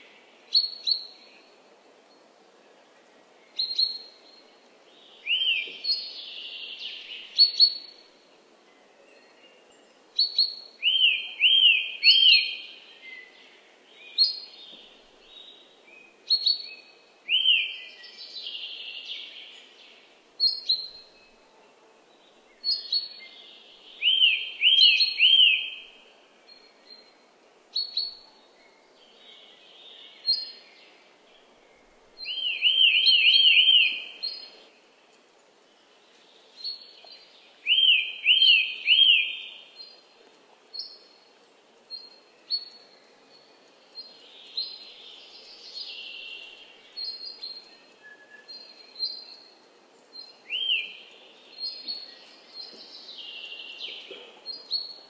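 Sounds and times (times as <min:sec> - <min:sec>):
faint low background noise: 0:00.0 - 0:55.0
songbirds singing: 0:00.0 - 0:55.0.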